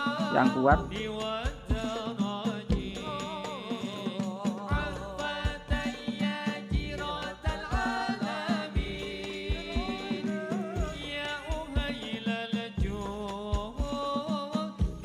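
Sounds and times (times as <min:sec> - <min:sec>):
hand-drum beat: 0:00.0 - 0:15.0.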